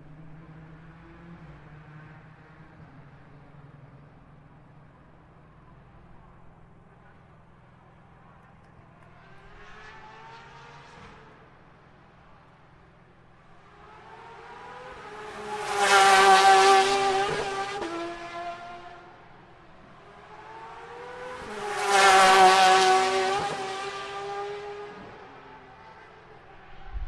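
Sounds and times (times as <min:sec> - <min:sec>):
race cars passing by: 0:00.0 - 0:27.0.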